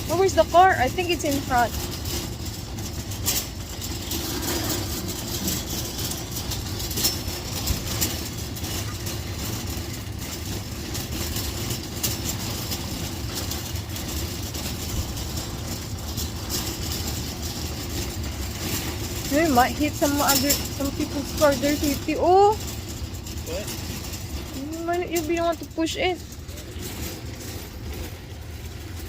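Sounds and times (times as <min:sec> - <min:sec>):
cart rattling clicks: 0:00.0 - 0:29.0
shopping cart wheels rumbling: 0:00.0 - 0:29.0.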